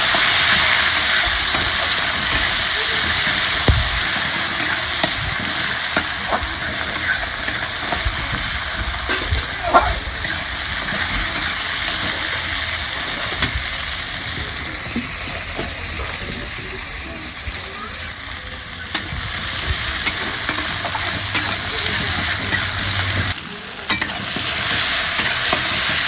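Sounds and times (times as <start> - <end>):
spoon stirring and scraping pan: 0.0 - 15.8, 18.8 - 26.0
onions frying in oil: 0.0 - 26.0.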